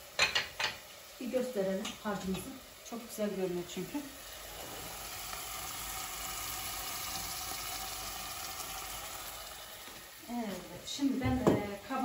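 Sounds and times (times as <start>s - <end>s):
onions and peppers sizzling in oil: 0.0s - 12.0s.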